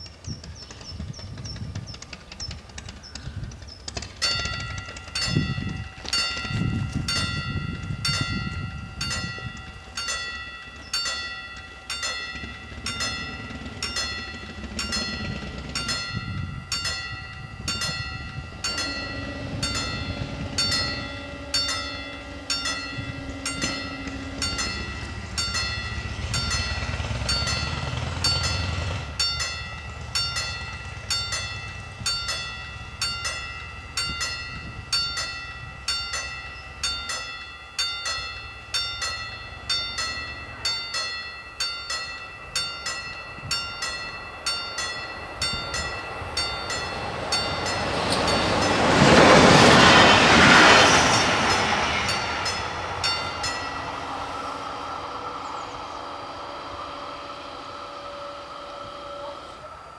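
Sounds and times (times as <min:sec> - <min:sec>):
level crossing warning bell: 0:04.2 - 0:59.9.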